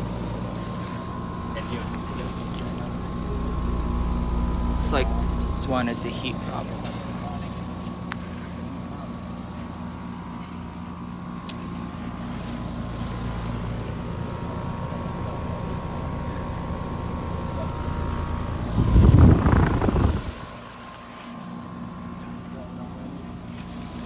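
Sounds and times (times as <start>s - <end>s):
compressor hum: 0.0s - 24.0s
condenser fan running: 0.0s - 24.0s.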